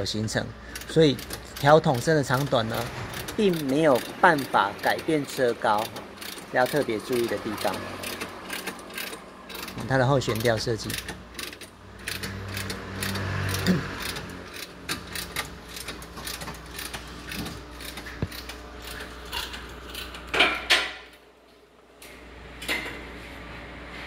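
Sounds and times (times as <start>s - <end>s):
hand tools clicking on metal: 0.7s - 20.2s.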